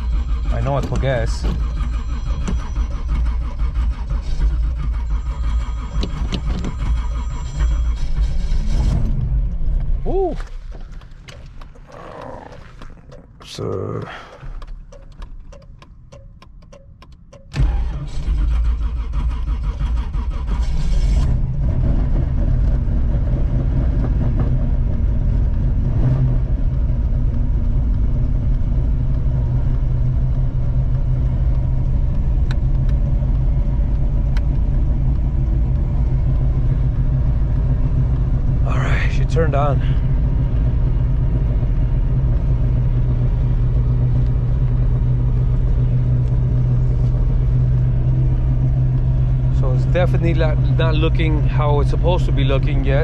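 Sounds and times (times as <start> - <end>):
car engine cranking: 0.0 - 53.0
car engine idling: 0.0 - 53.0.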